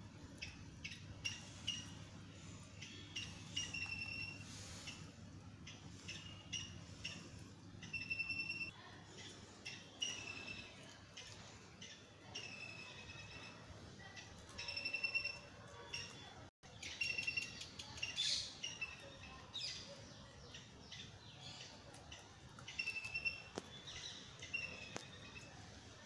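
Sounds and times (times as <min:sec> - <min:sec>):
rabbits chewing leaves: 0:00.0 - 0:26.0
small bird chirping: 0:00.2 - 0:26.0.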